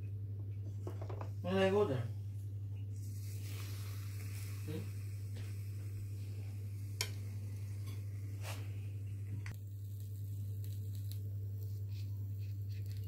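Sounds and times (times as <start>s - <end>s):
low hum: 2.1s - 13.0s.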